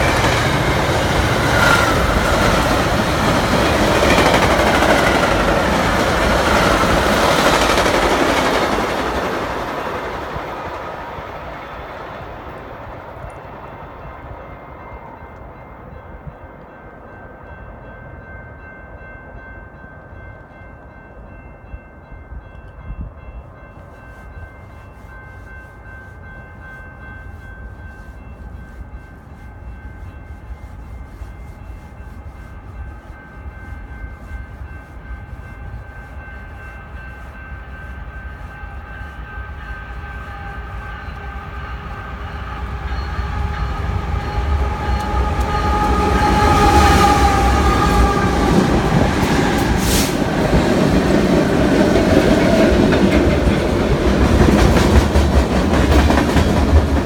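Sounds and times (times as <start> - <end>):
thin high rail tones: 0.0 - 57.0
train rolling on rails: 0.0 - 57.0.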